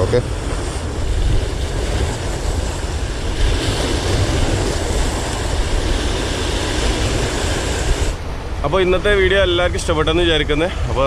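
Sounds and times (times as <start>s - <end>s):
sea surf: 0.0s - 11.0s
wind rumbling on microphone: 0.0s - 11.0s.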